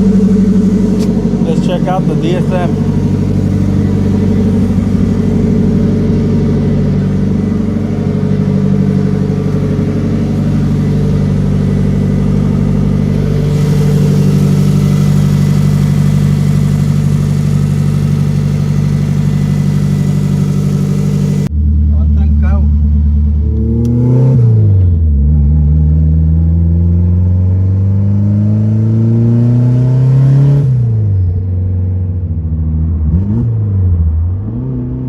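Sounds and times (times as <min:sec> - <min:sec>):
turbocharged car engine running: 0:00.0 - 0:31.3.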